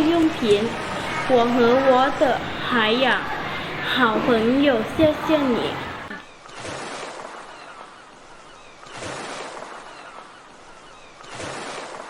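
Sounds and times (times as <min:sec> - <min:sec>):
birds calling faintly: 0:00.0 - 0:12.0.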